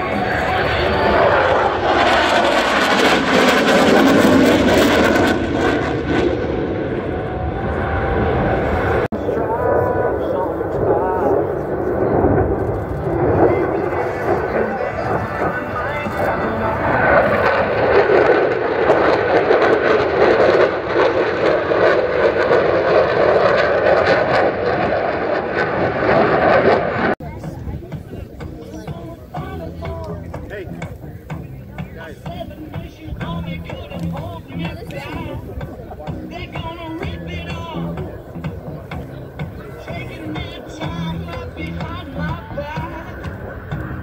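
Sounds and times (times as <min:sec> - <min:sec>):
jet flying past: 0:00.0 - 0:44.0.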